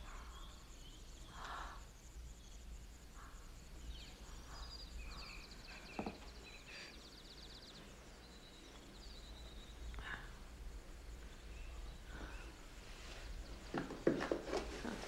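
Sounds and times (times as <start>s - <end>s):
birds chirping: 0.0s - 15.0s
insects trilling: 0.0s - 15.0s.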